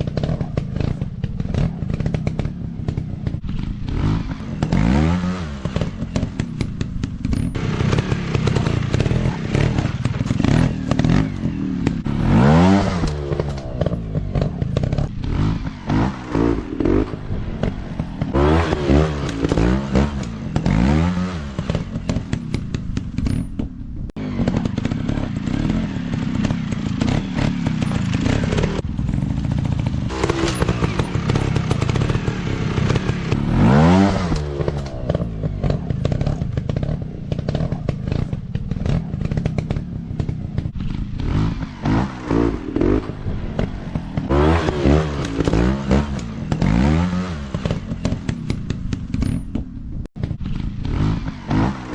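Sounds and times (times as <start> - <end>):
dirt bike engines revving: 0.0 - 51.9
knocks and clatter: 0.0 - 51.9.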